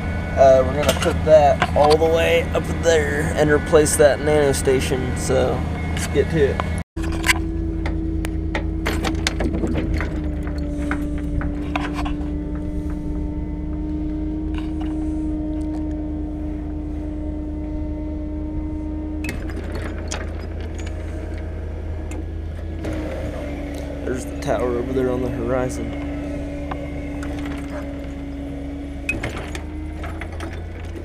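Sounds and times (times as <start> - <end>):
hydraulic boom engine drone: 0.0 - 31.0.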